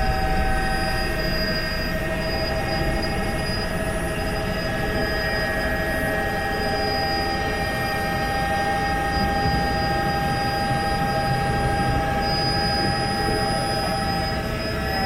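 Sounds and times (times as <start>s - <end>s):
helicopter low rumble: 0.0s - 15.0s
high-pitched turbine whine: 0.0s - 15.0s.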